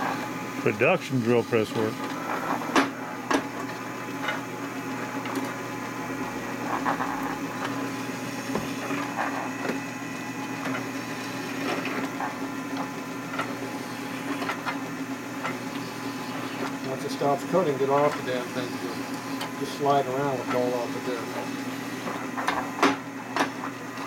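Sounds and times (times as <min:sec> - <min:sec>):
drill press running: 0:00.0 - 0:24.0.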